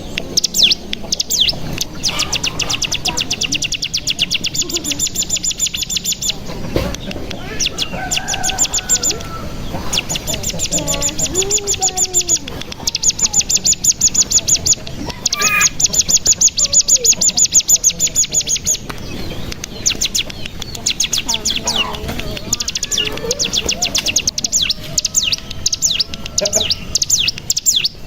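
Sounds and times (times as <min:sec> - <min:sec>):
bird fast rattling trill: 0:00.0 - 0:06.5, 0:07.4 - 0:28.0
faint lower wavering bird calls: 0:00.0 - 0:28.0.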